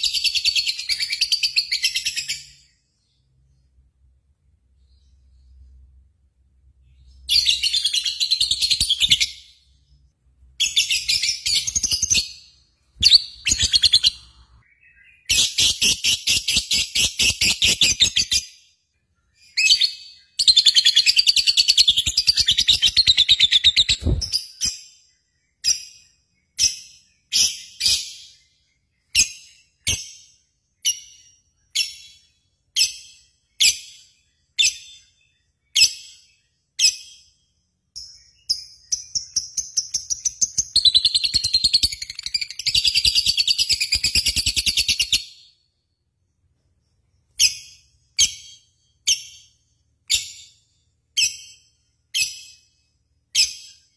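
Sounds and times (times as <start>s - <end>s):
bird chirping: 0.0s - 53.9s.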